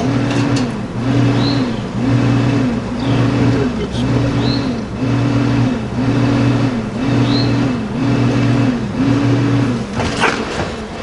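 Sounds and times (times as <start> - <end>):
machine hum cycling in pitch: 0.0 - 11.0.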